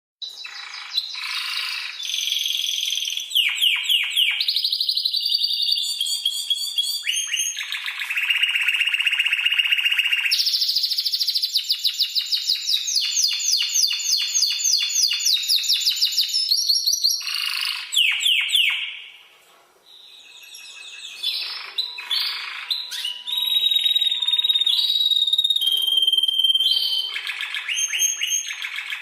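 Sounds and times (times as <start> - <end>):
canary singing trills: 0.2 - 19.2, 19.9 - 29.0.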